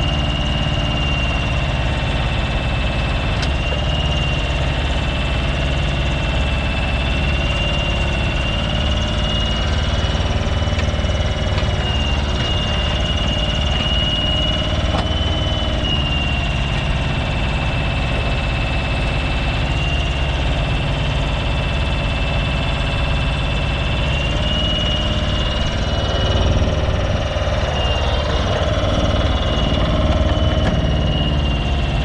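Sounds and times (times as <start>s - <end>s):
high wavering whine: 0.0s - 32.0s
mini digger engine running: 0.0s - 32.0s.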